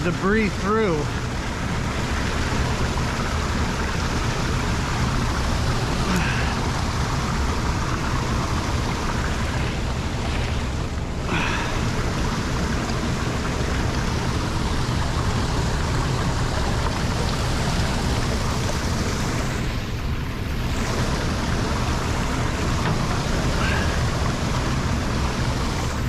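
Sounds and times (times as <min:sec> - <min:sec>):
water rushing into a drain: 0:00.0 - 0:26.0.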